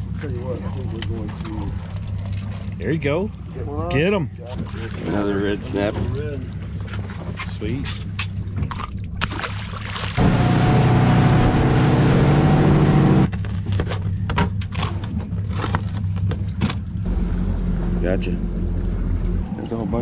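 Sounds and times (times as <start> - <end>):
low engine hum: 0.0 - 20.0
outboard motor at speed: 0.0 - 20.0.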